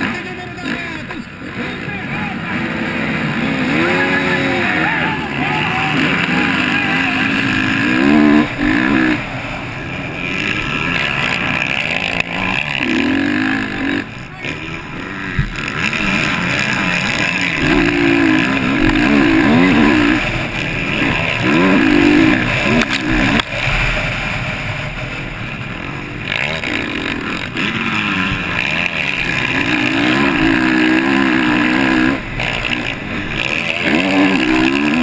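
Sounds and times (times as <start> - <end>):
motocross motorcycle engine revving: 0.0 - 35.0.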